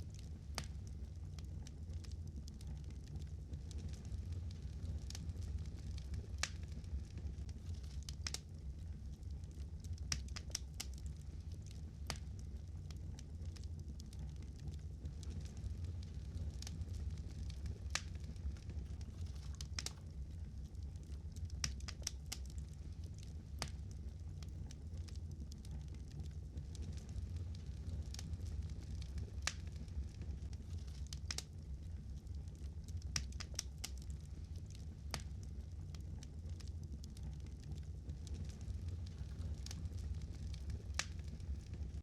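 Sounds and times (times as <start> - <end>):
low rumble: 0.0 - 42.0
wood fire crackling: 0.0 - 42.0.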